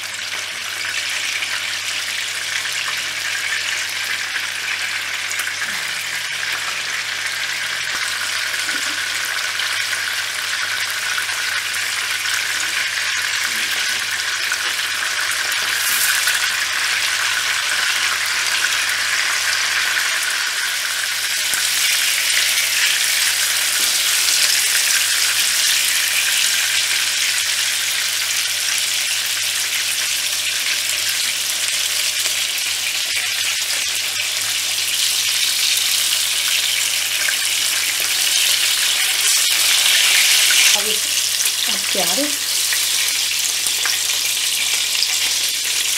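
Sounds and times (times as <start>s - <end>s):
kebabs sizzling in oil: 0.0s - 45.9s.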